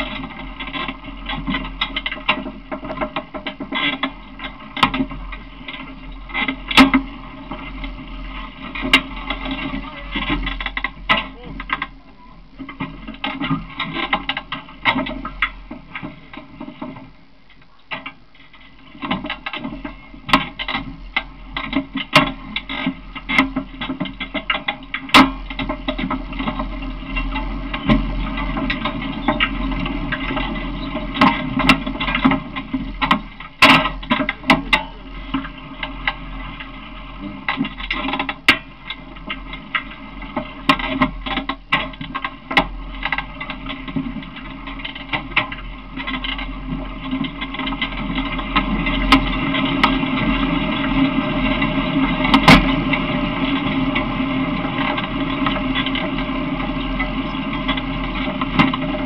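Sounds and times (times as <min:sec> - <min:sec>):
ride-on vehicle rattling: 0:00.0 - 0:59.0
steady low hum: 0:00.0 - 0:59.0.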